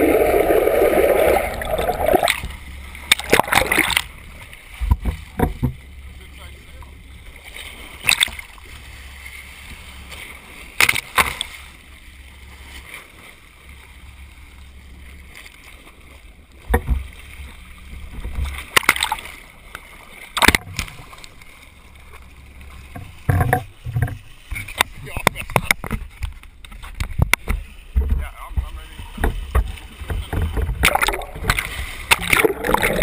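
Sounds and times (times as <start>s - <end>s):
boat rumble underwater: 0.0s - 33.0s
water splashes: 0.0s - 33.0s.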